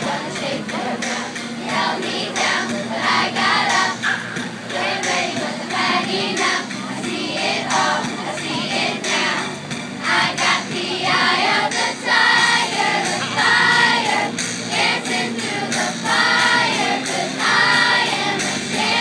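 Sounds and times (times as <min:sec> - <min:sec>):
children's chorus singing: 0:00.0 - 0:19.0.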